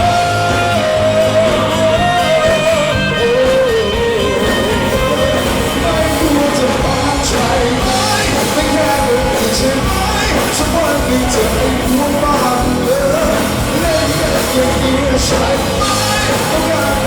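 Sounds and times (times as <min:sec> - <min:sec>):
live pop rock band: 0:00.0 - 0:17.0.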